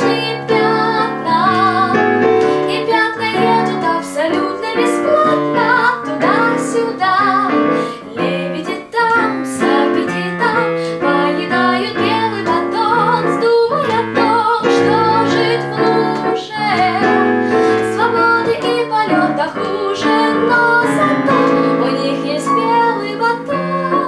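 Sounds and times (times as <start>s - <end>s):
digital piano chords: 0.0s - 24.0s
young woman singing: 0.0s - 24.0s.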